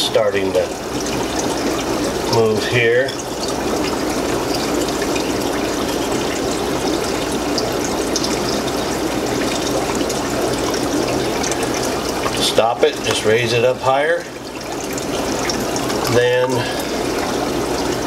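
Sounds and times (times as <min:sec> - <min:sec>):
water draining through a tube: 0:00.0 - 0:18.0.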